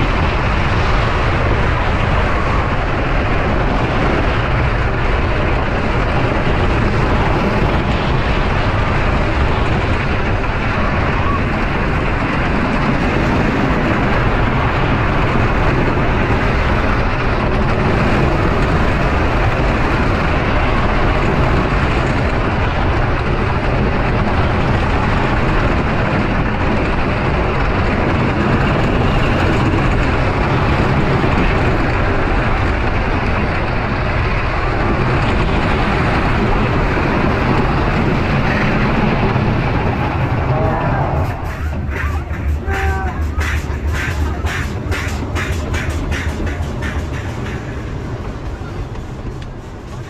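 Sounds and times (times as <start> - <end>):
roller coaster wheels rumbling: 0.0 - 50.0
wind rush on microphone: 0.0 - 50.0.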